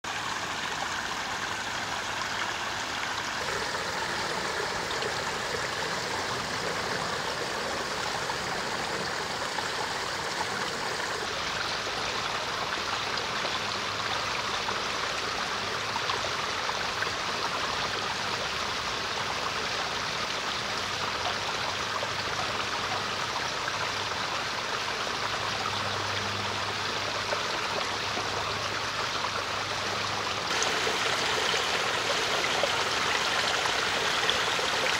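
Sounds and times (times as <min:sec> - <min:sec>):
small waterfall over rocks: 0:00.0 - 0:34.9.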